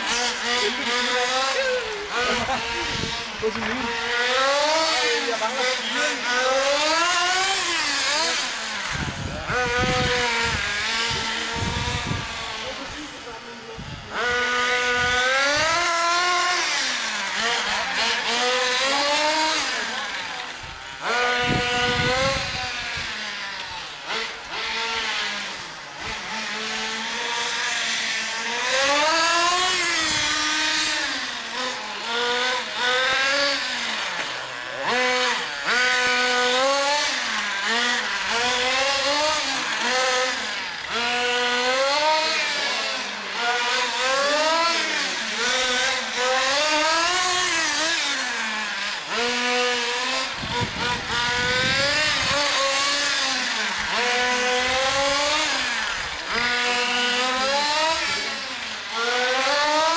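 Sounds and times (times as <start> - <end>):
small engine whine: 0.0 - 59.9.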